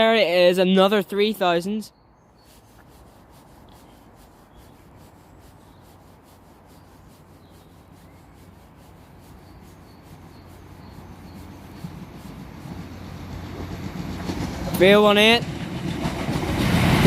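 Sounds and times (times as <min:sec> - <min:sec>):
approaching diesel train rushing: 0:02.5 - 0:17.0.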